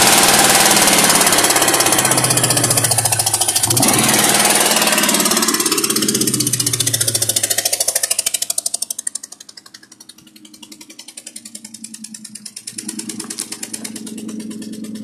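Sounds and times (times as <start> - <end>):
car engine running: 0.0 - 15.0
engine knock tapping: 0.0 - 15.0.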